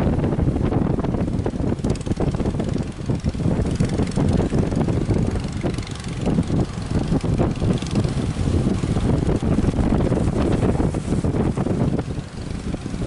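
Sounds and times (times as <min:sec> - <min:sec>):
wind buffeting microphone: 0:00.0 - 0:13.0
boat engine drone: 0:00.1 - 0:13.0.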